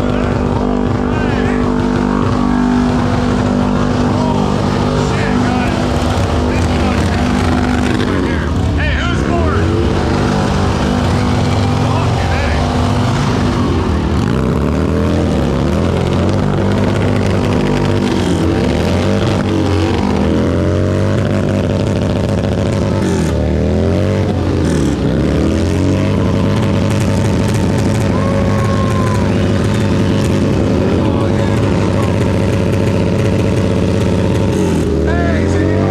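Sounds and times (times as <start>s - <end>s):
motorcycle engines running: 0.0s - 35.9s.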